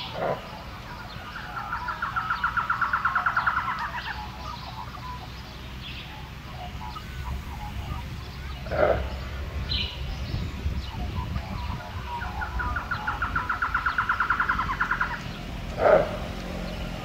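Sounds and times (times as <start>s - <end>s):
bird trilling: 0.0s - 17.0s.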